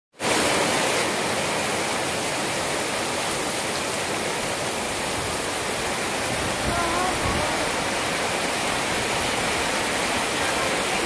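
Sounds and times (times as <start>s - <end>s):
heavy rain on wet grass: 0.2s - 11.0s.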